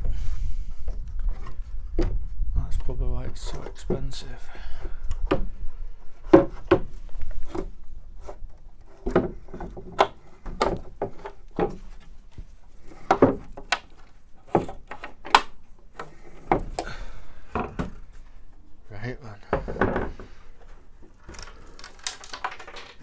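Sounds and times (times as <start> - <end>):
plastic trim knocking and scraping: 0.8 - 18.4, 19.4 - 23.0.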